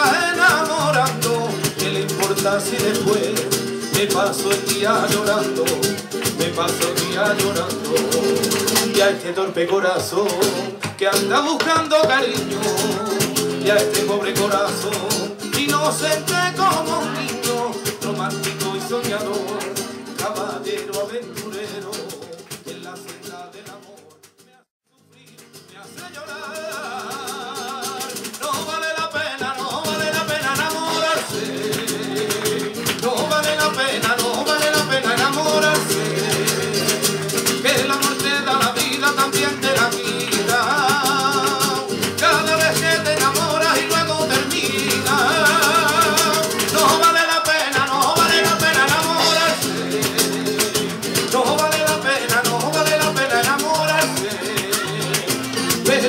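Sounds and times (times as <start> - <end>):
acoustic guitar: 0.0 - 56.0.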